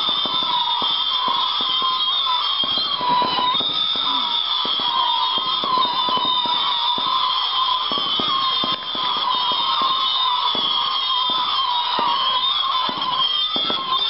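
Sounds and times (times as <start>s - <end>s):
fireworks crackling pops: 0.0s - 14.0s
fireworks high whistling: 0.0s - 14.0s.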